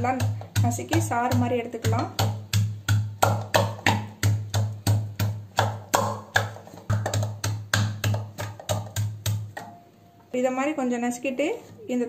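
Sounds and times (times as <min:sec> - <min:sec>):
pestle pounding leaves in vessel: 0:00.0 - 0:09.8.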